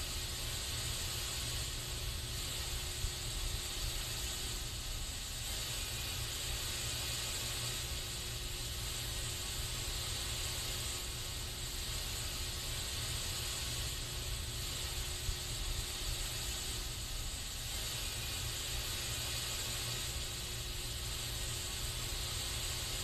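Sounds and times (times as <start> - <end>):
aerosol spray can hissing: 0.0 - 23.0.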